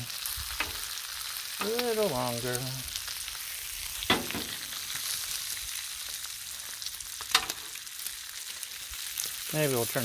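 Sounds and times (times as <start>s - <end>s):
bacon sizzling on griddle: 0.0s - 10.0s.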